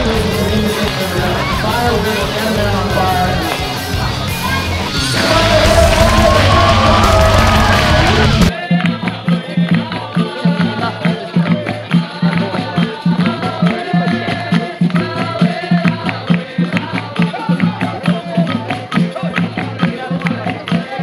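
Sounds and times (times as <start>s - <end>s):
hand drum rhythm: 0.0s - 21.0s
voices singing: 0.0s - 21.0s.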